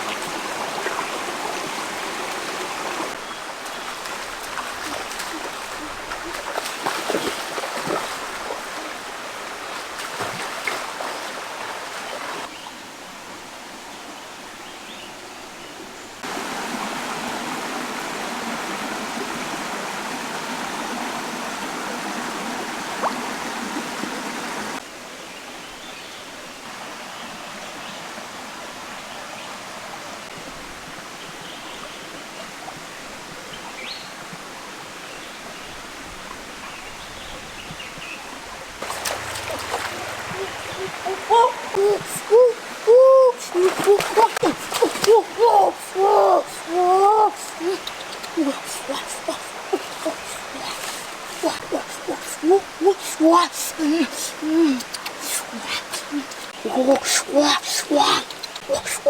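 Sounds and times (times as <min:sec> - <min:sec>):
stream water rushing: 0:00.0 - 0:25.2, 0:26.5 - 0:59.0.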